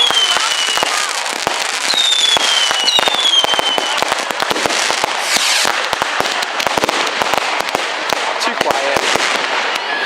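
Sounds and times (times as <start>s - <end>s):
fireworks crackling: 0.0s - 10.0s
whistling fireworks: 0.0s - 10.0s.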